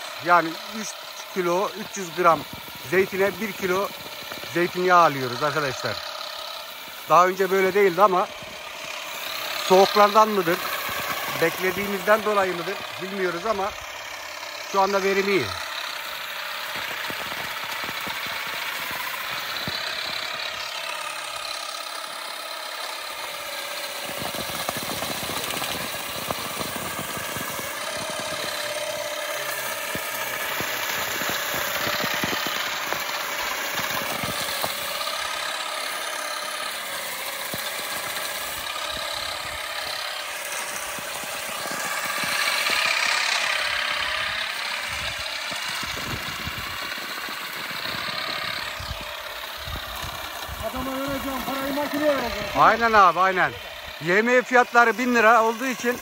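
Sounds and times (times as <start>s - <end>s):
electric motor whine: 0.0s - 56.0s
fast dense clatter: 7.1s - 56.0s.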